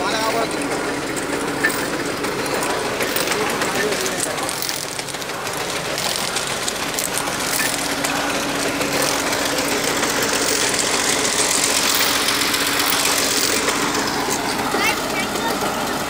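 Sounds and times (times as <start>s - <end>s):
drilling rig engine running: 0.0s - 16.0s
steady hum: 0.0s - 16.0s.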